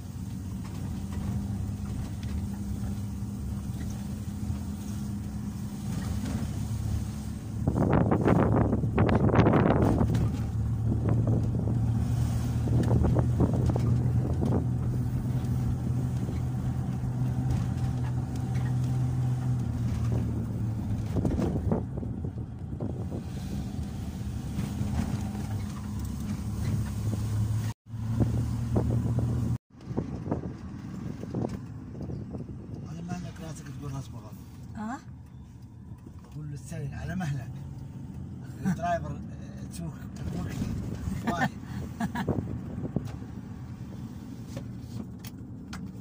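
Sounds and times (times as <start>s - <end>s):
car engine and road noise: 0.0s - 46.0s.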